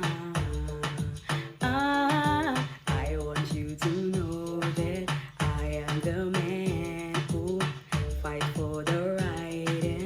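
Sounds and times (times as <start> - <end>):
song with sung vocals and beat: 0.0 - 10.0.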